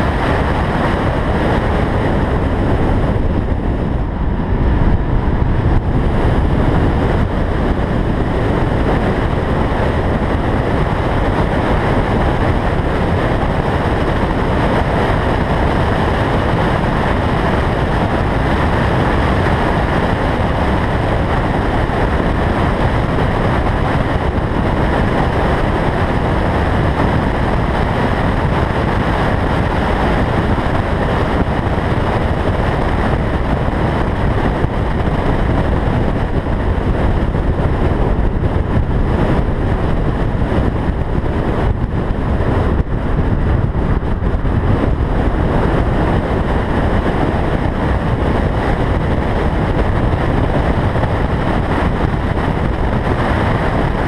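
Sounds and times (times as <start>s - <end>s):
road noise: 0.0s - 54.0s
wind rush: 0.0s - 54.0s.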